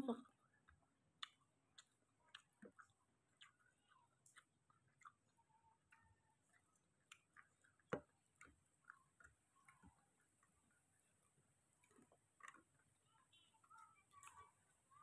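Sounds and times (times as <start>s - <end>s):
person chewing: 0.4s - 12.9s.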